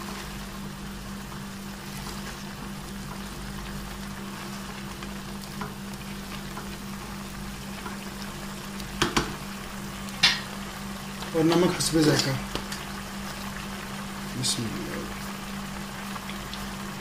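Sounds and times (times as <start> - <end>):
food boiling and sizzling: 0.0 - 17.0
steady low hum: 0.0 - 17.0.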